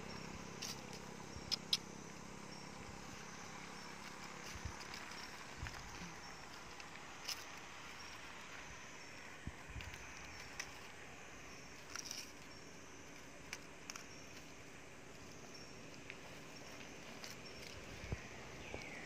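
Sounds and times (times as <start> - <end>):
steady faint hiss: 0.0 - 19.0.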